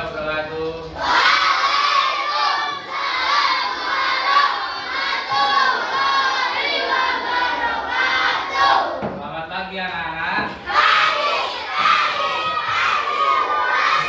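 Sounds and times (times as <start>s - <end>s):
children chanting in unison: 0.9s - 9.2s, 10.6s - 14.0s.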